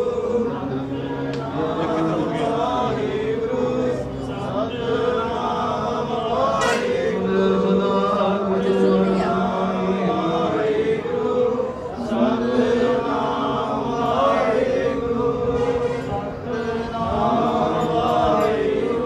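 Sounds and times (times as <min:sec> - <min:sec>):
congregation chanting in unison: 0:00.0 - 0:19.0.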